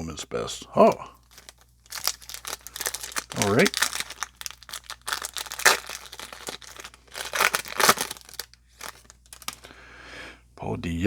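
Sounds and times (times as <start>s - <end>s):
plastic wrapper crinkling and tearing: 0.8s - 9.8s.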